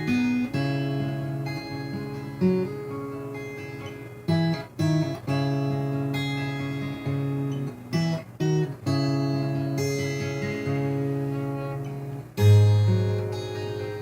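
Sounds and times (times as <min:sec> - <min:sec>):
acoustic guitar chords ringing: 0:00.0 - 0:14.0
quick guitar strums: 0:00.0 - 0:14.0.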